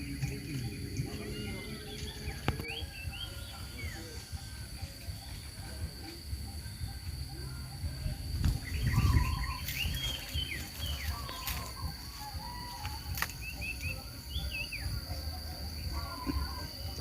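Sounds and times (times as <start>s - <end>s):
high-pitched insect drone: 0.0s - 17.0s
small birds chirping: 0.0s - 17.0s.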